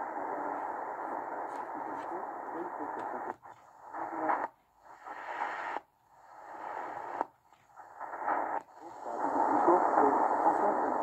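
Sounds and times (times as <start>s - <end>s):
radio static and hiss: 0.0s - 11.0s.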